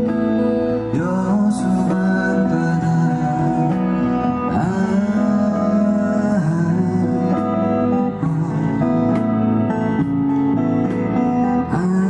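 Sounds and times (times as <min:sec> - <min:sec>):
acoustic and electric guitars: 0:00.0 - 0:12.0.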